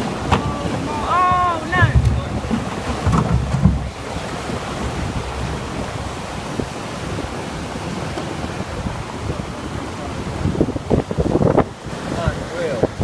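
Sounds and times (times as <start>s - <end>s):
sea water rushing: 0.0s - 13.0s
wind buffeting microphone: 0.0s - 13.0s.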